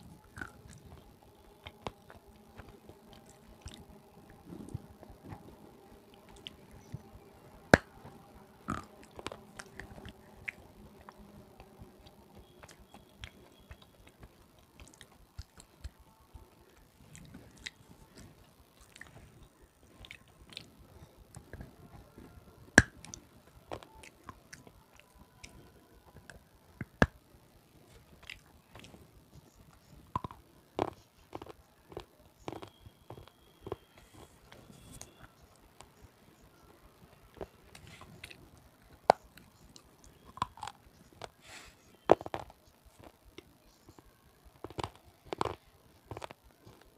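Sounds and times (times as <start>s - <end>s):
crunchy chewing close-up: 0.0s - 27.2s, 27.8s - 35.9s, 36.6s - 46.9s.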